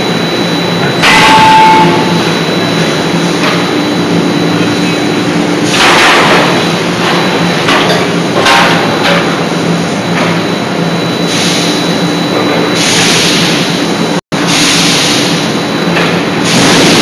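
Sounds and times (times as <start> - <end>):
industrial machinery humming: 0.0 - 17.0.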